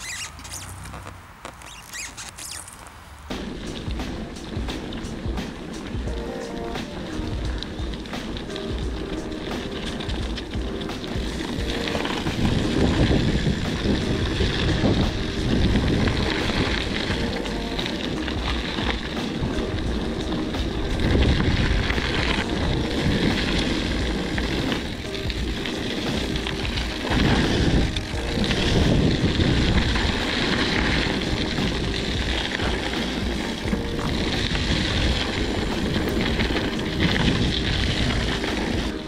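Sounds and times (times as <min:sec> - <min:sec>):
bike tyres rolling on dirt: 0:00.0 - 0:39.0
background music: 0:03.3 - 0:39.0
wind on microphone: 0:03.3 - 0:39.0.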